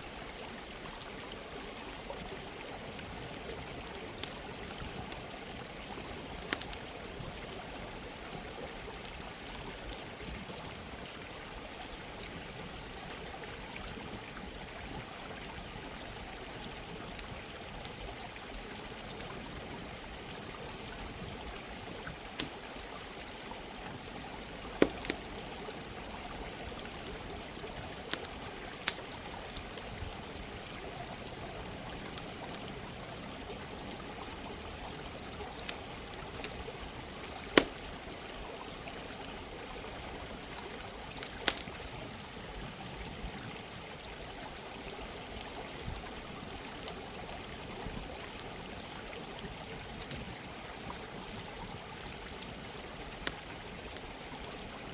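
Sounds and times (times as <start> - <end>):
campfire crackling: 0.0 - 54.9
running water flowing: 0.0 - 54.9.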